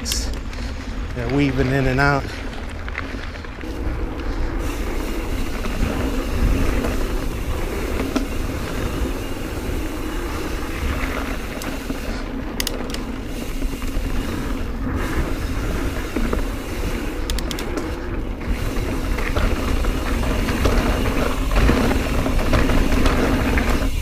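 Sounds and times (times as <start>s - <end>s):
bike clacking over bumps: 0.0s - 24.0s
bike tyres rolling on dirt: 0.0s - 24.0s.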